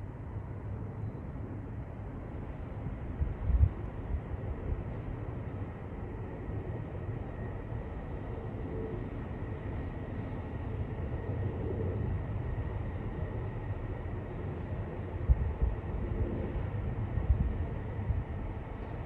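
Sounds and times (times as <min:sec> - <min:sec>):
jet aircraft rumble overhead: 0:00.0 - 0:19.0.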